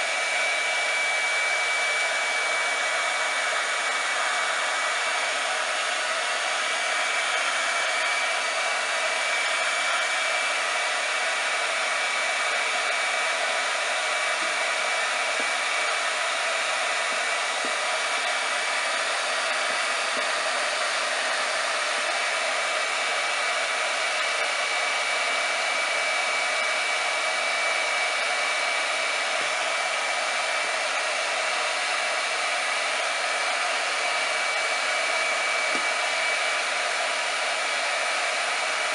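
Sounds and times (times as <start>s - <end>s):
hot-air blower running: 0.0s - 38.9s.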